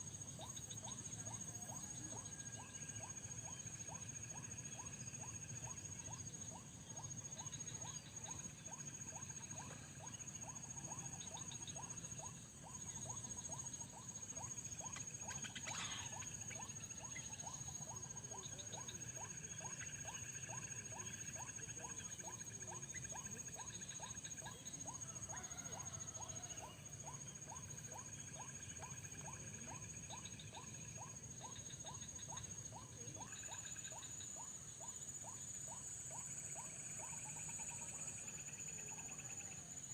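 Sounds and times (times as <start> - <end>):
insect trilling: 0.0 - 39.9
insects buzzing: 0.0 - 39.9
regular insect chirp: 0.0 - 39.9.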